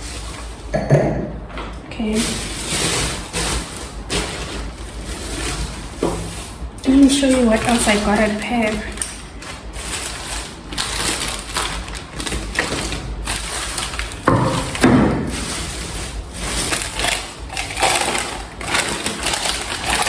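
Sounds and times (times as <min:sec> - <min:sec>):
packaging crinkling and rustling: 0:00.0 - 0:00.7, 0:02.0 - 0:20.0.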